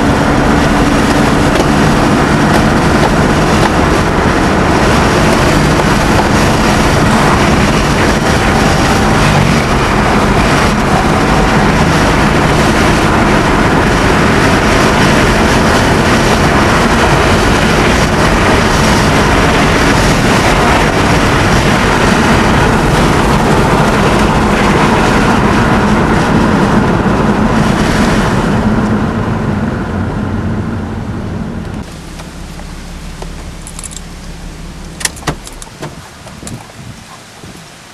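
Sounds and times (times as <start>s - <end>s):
car engine running: 0.0s - 37.5s
road noise: 0.0s - 37.9s.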